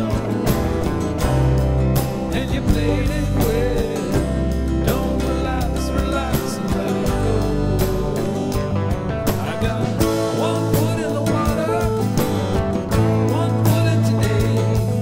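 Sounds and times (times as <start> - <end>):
song with drum beat and bass: 0.0 - 15.0.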